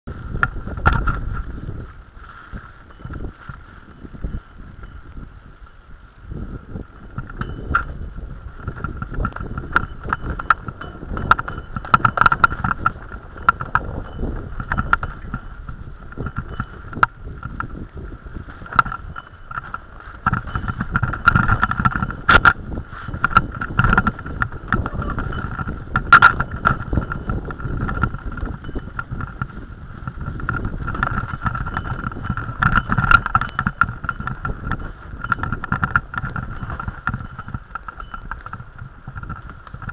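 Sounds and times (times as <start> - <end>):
bike rattling and knocking: 0.1 - 39.9.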